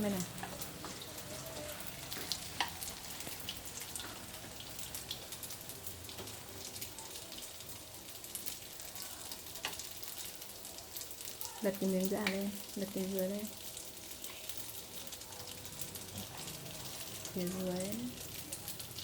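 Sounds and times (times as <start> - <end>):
tofu sizzling in hot oil: 0.0 - 19.0.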